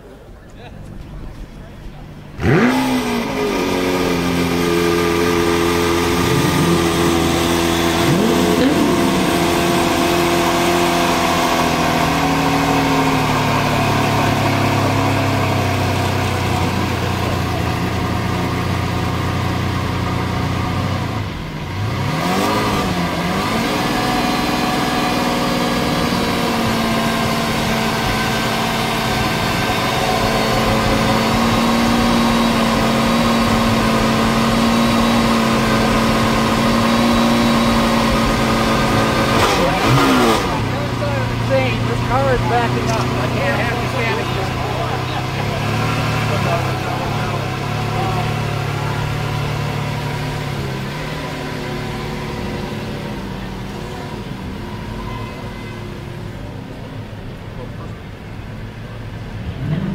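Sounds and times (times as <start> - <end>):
car engine idling: 0.0 - 59.8
engine throttle blips: 0.0 - 59.9.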